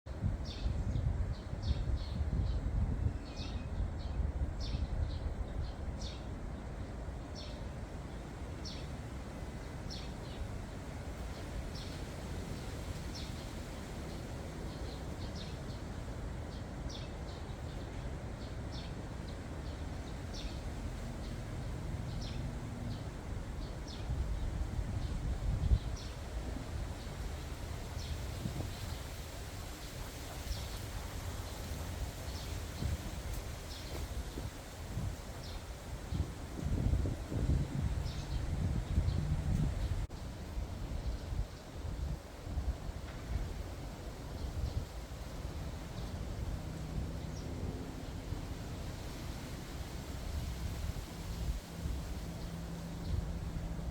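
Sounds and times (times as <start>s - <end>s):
wind rumble on microphone: 0.1s - 53.9s.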